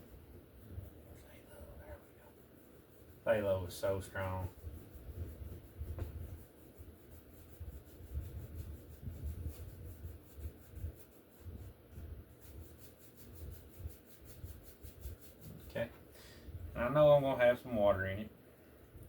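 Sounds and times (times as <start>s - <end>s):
brush scrubbing paint on metal: 0.0s - 15.9s.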